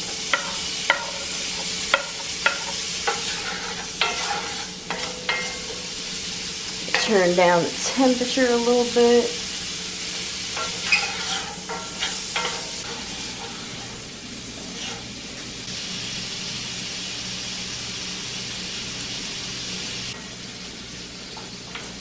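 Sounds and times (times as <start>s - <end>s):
sausage sizzling in skillet: 0.0s - 22.0s.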